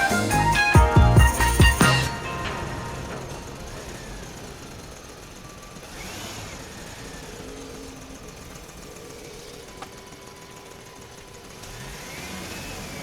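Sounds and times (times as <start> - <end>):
mechanical running noise: 2.1 - 13.0.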